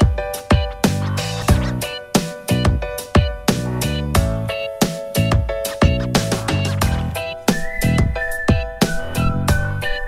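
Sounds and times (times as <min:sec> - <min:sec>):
steady drum beat: 0:00.0 - 0:09.6
high melody line: 0:00.0 - 0:10.0.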